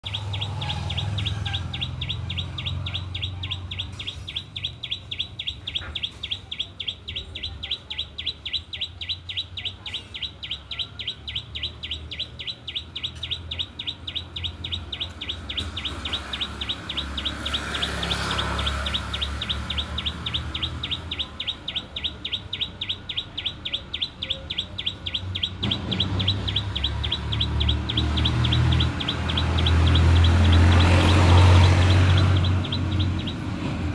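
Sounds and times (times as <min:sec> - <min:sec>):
bird chirping: 0:00.0 - 0:33.9.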